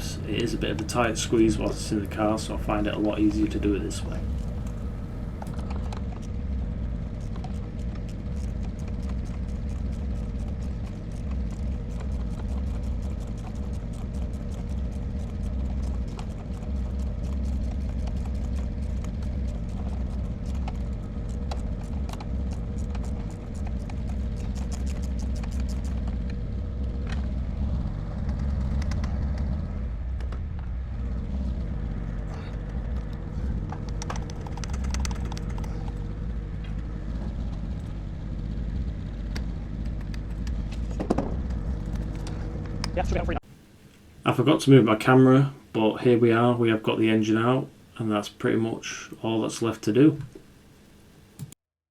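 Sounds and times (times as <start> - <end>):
low rumble: 0.0 - 43.5.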